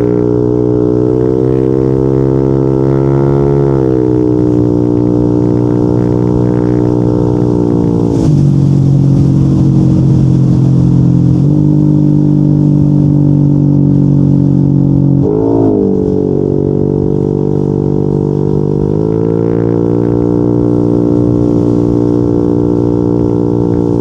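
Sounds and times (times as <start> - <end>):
scooter engine exhaust note: 0.0 - 24.0.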